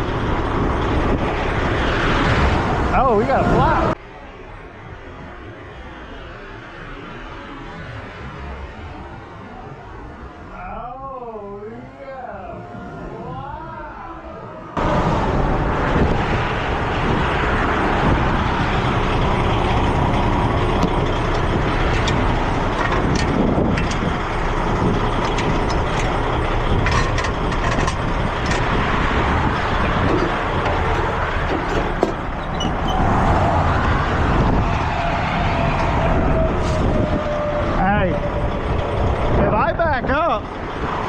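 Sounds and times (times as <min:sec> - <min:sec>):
heavy truck engine running: 0:00.0 - 0:10.5, 0:14.3 - 0:41.0.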